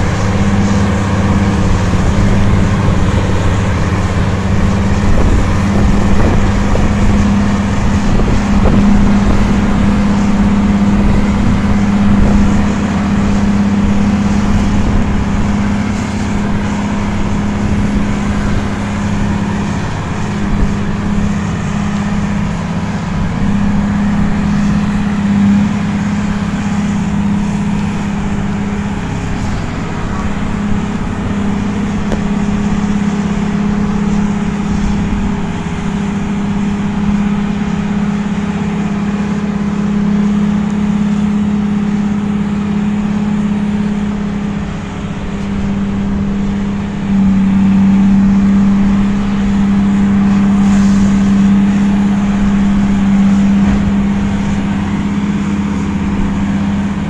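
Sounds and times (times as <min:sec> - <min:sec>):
heavy vehicle engine running: 0:00.0 - 0:57.0.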